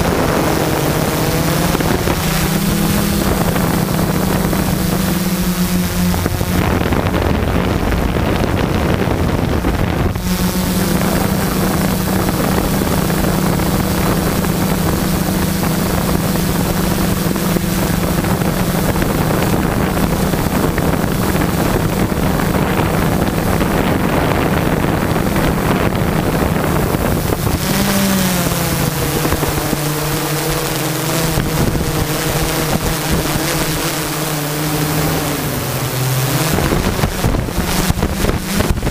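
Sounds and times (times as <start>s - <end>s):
drone motors and propellers: 0.0s - 38.9s
wind on microphone: 0.0s - 38.9s.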